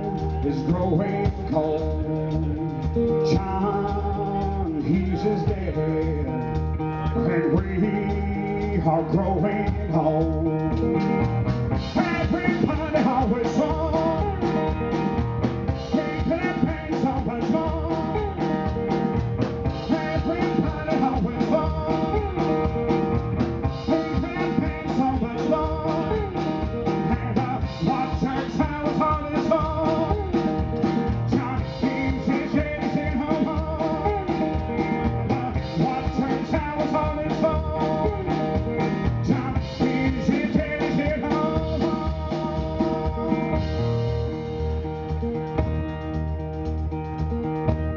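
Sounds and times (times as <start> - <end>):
drum kit beat: 0.0 - 47.9.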